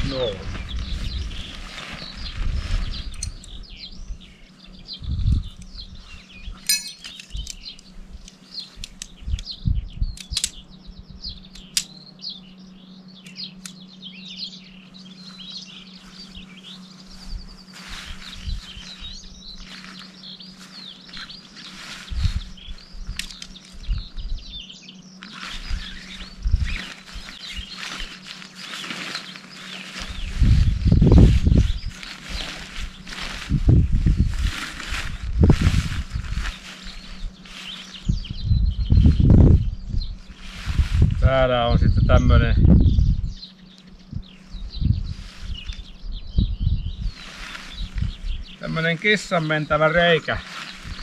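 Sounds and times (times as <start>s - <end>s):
small birds chirping and singing: 0.0s - 51.0s.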